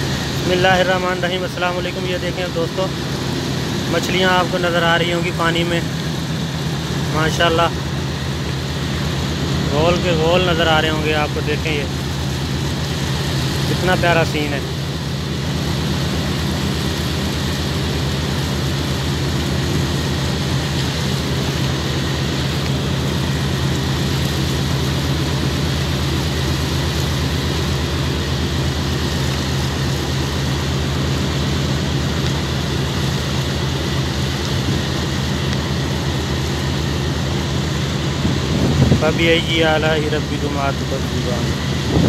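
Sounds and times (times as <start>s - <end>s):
constant hiss: 0.0s - 42.0s
engine droning with fast pulse: 0.0s - 42.0s.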